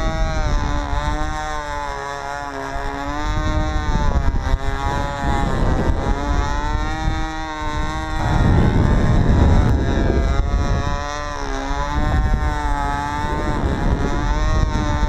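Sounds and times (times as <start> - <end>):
model aeroplane engine buzzing: 0.0 - 15.0
wind rumble on microphone: 0.0 - 15.0.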